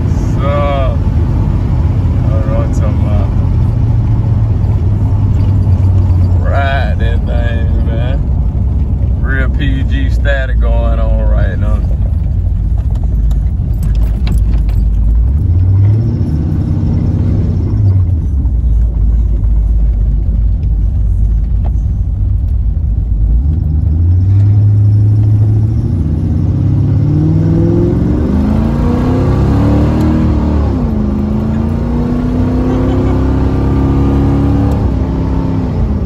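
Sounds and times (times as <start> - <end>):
car engine revving while driving: 0.0 - 36.0.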